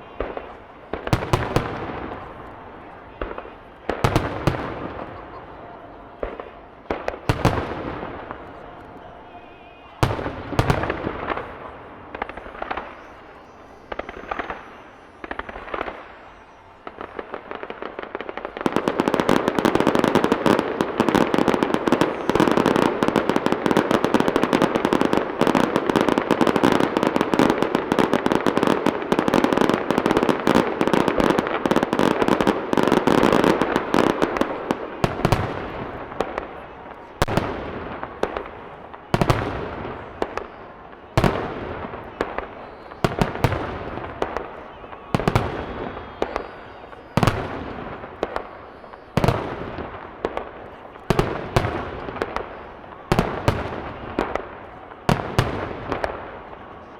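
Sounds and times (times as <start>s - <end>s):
fireworks bursting: 0.0s - 56.9s
fireworks crackling: 0.0s - 56.9s.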